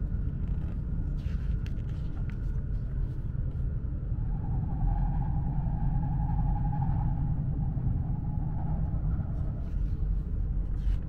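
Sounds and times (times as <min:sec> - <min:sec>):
train rumbling at speed: 0:00.0 - 0:11.0.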